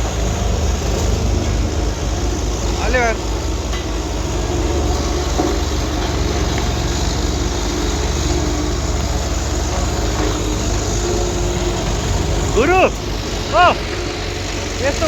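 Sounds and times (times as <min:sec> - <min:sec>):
road roller diesel engine humming: 0:00.0 - 0:15.0.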